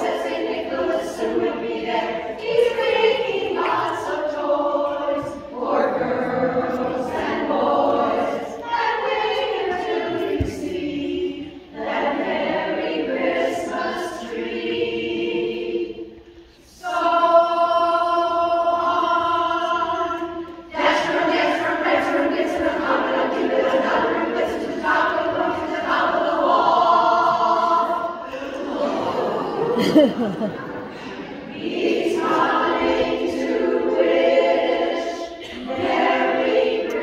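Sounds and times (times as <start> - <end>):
barbershop chorus singing a cappella: 0.0 - 29.8, 30.8 - 37.0.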